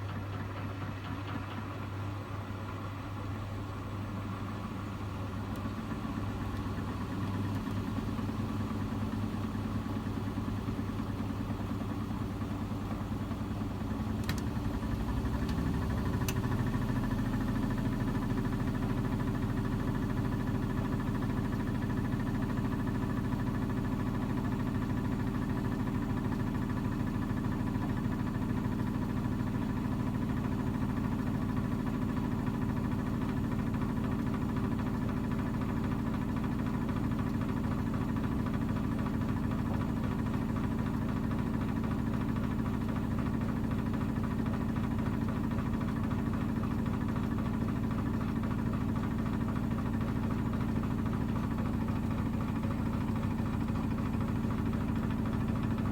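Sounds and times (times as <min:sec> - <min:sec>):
washing machine running: 0:00.0 - 0:55.9.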